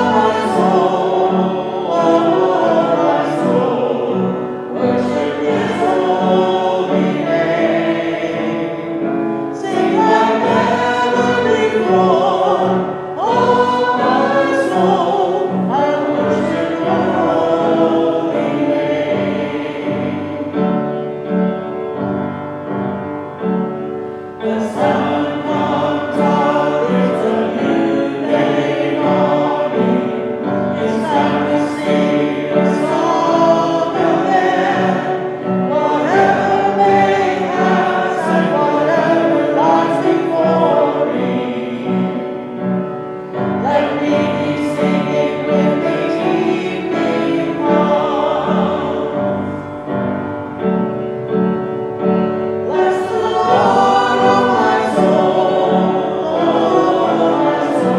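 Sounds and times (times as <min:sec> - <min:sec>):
piano playing low notes: 0:00.0 - 0:57.9
voices singing worship song: 0:00.0 - 0:57.9.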